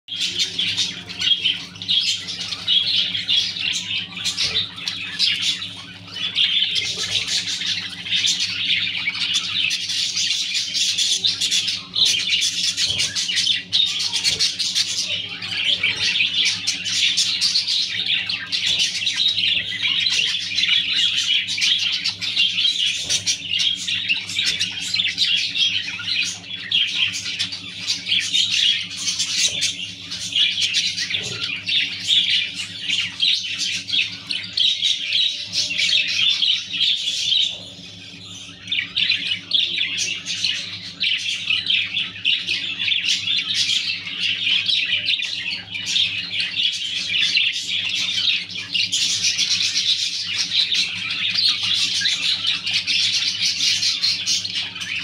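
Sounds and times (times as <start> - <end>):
budgerigars chattering: 0.1 - 55.0.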